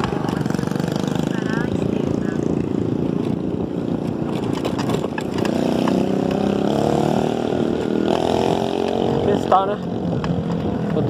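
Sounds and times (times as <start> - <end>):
rough vehicle rumble: 0.0 - 11.0.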